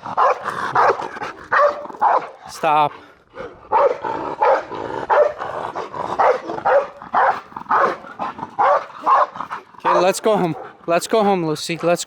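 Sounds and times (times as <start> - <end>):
dog barking rapidly: 0.0 - 2.8, 3.4 - 10.9.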